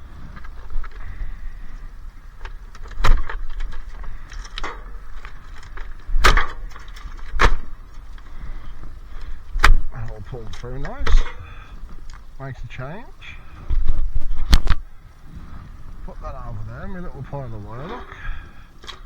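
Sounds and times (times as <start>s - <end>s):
rustling handling: 0.0s - 19.0s.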